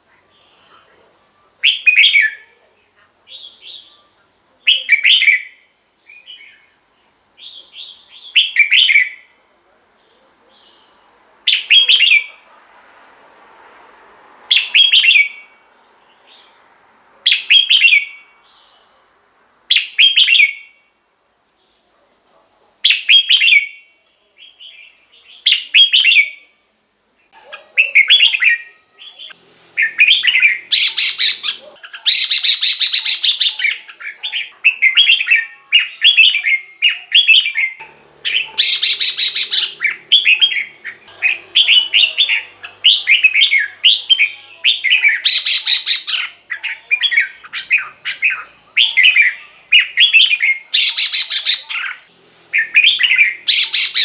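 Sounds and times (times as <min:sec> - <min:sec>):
bird singing loud phrases: 0:00.0 - 0:12.5, 0:13.3 - 0:19.0, 0:19.7 - 0:20.9, 0:22.8 - 0:26.6, 0:27.2 - 0:54.0.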